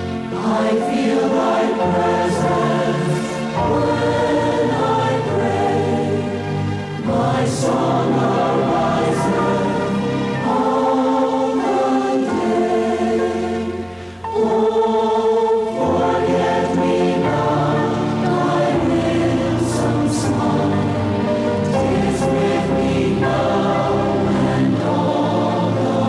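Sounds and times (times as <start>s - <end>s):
congregation singing a slow hymn: 0.0s - 26.0s.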